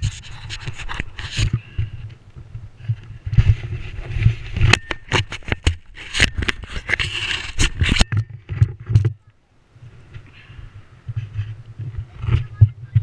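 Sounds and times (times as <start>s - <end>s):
handling noise on microphone: 0.0s - 13.0s.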